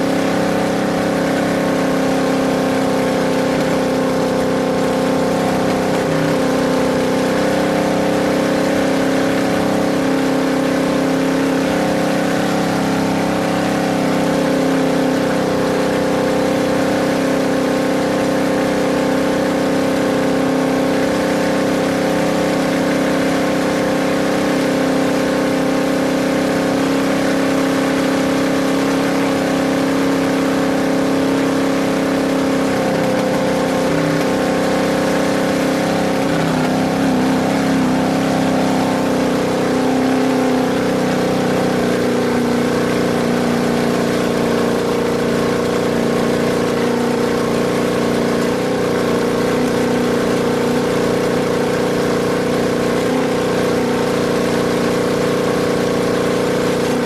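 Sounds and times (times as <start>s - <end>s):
race vehicle engine droning: 0.0s - 57.0s.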